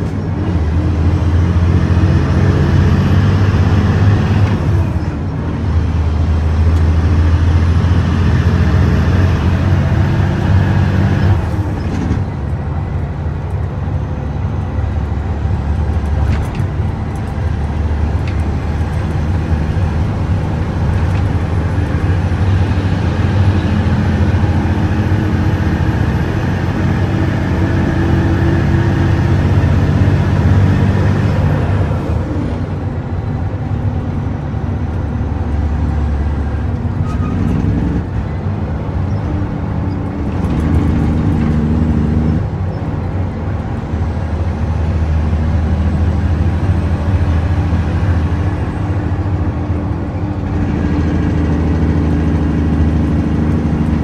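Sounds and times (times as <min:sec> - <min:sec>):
diesel truck engine from cab: 0:00.0 - 0:54.0.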